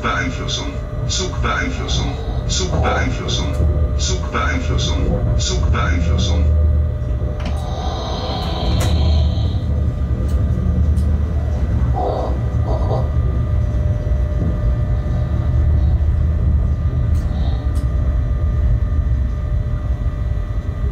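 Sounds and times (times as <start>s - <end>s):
electric hum: 0.0s - 20.9s
train wheels rumbling on rails: 0.0s - 20.9s.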